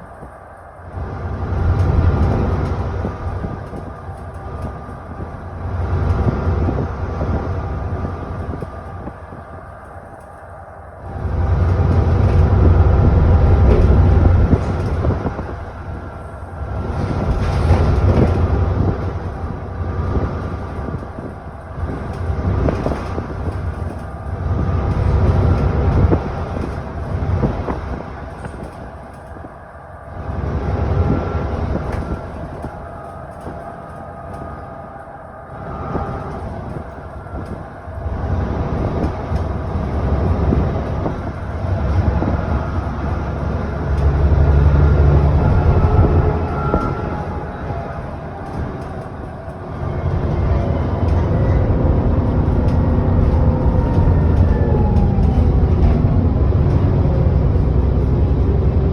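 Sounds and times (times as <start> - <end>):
bus diesel engine surging: 0.0 - 58.9.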